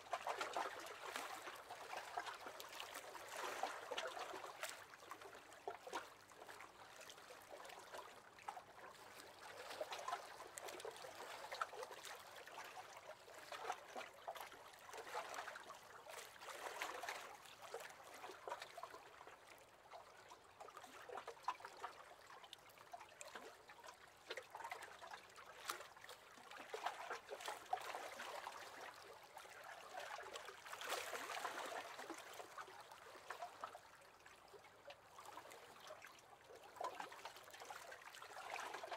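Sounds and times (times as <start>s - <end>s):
small waves lapping against boat hull: 0.0s - 38.9s.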